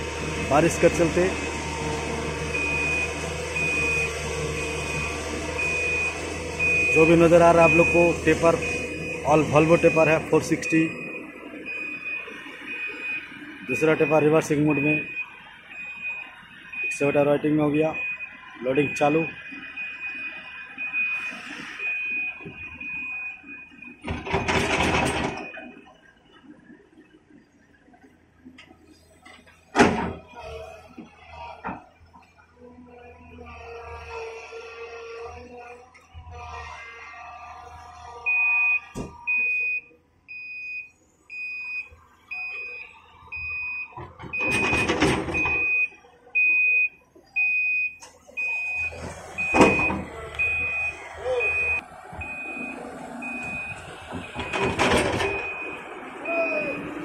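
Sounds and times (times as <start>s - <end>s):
truck reversing alarm beeping: 0.0s - 28.1s, 28.8s - 57.0s.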